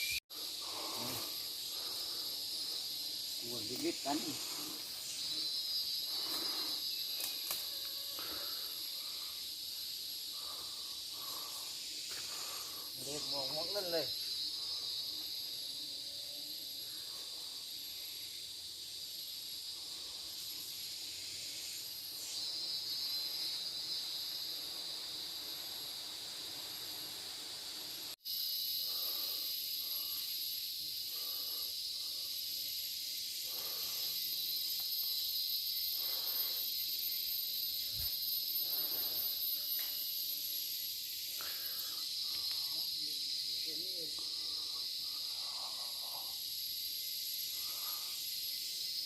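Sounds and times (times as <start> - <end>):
insect chorus drone: 0.0 - 49.0.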